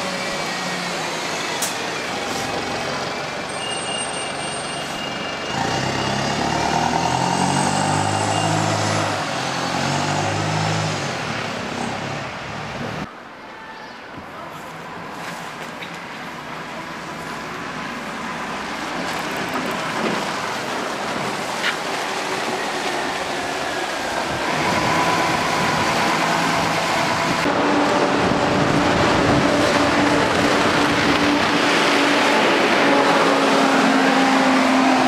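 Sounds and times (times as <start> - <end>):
bus engine and road noise: 0.0 - 13.4, 14.0 - 35.0.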